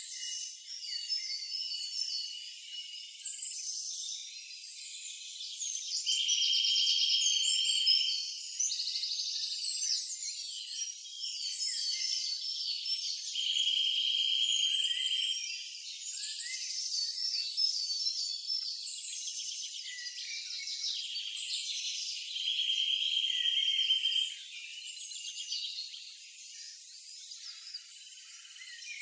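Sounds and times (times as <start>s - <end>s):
birds chirping and trilling: 0.0s - 29.0s.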